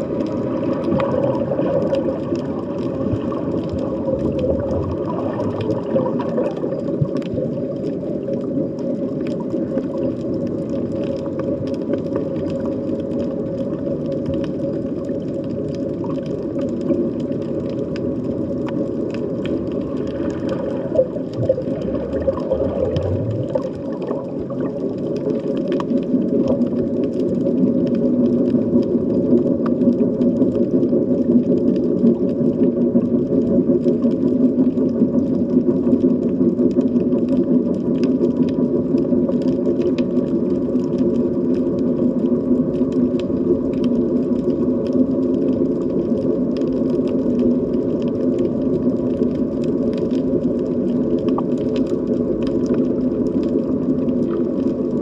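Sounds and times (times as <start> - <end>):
underwater drone with held tones: 0.0 - 55.0.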